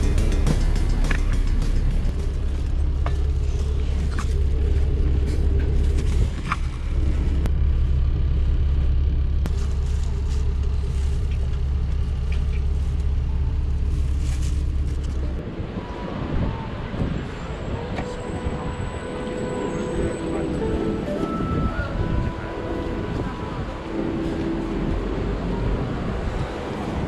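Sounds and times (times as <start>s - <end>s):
coach engine rumble: 0.0s - 27.0s.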